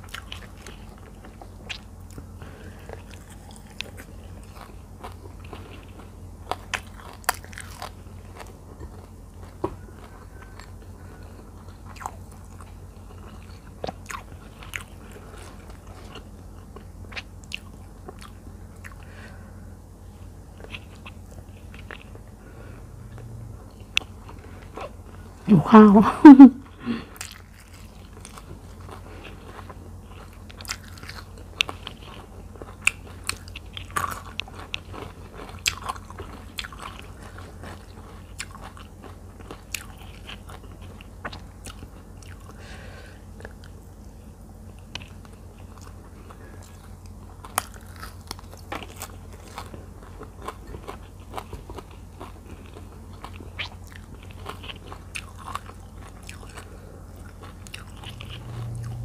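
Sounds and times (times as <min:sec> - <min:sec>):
crunching vegetables: 0:00.0 - 0:19.1, 0:26.7 - 0:43.9, 0:44.7 - 0:59.0
steady low hum: 0:00.0 - 0:59.0.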